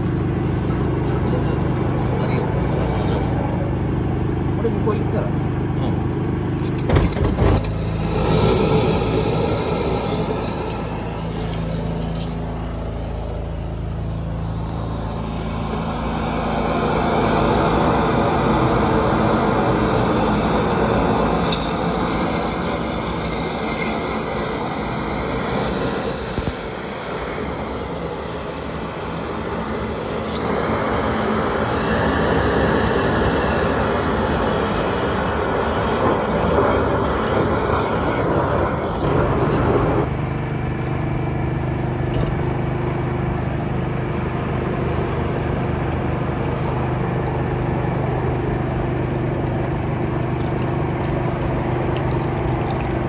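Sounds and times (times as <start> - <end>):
pressure washer running: 0.0 - 53.0.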